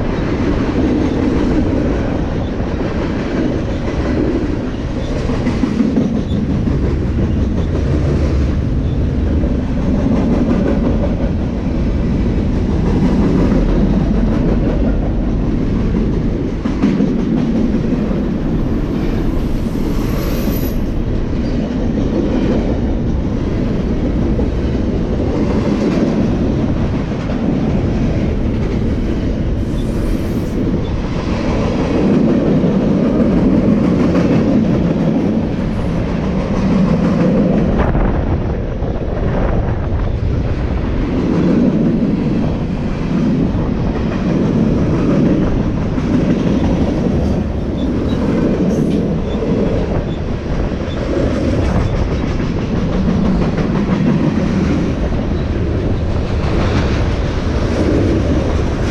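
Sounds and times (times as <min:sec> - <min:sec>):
freight train rumbling past: 0:00.0 - 0:58.9.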